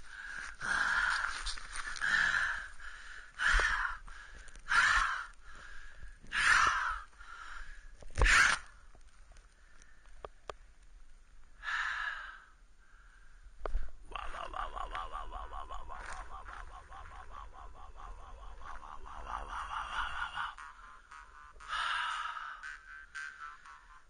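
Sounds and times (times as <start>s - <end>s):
man breathing heavily: 0.0s - 8.6s, 11.6s - 14.1s, 15.8s - 24.0s.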